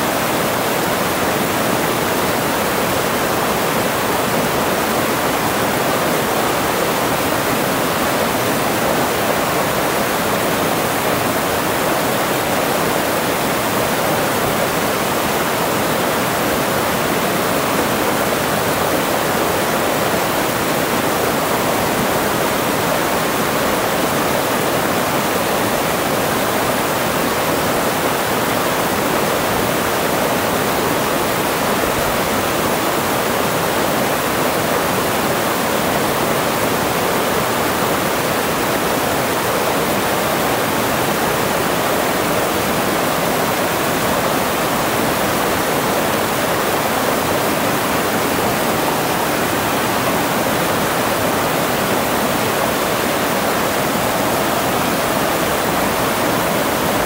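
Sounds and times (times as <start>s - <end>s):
water cascading over rocks: 0.0s - 57.0s.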